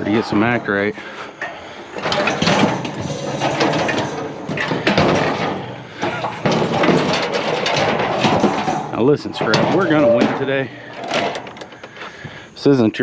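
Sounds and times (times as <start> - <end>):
treadmill scraping and clunking: 1.4 - 12.3.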